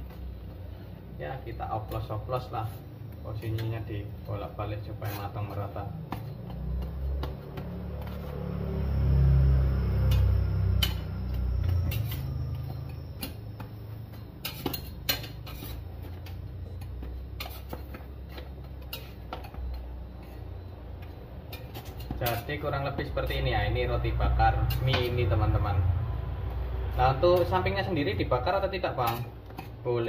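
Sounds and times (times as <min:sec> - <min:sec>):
metal spatula scraping a pan: 0:02.4 - 0:25.7, 0:27.1 - 0:30.0.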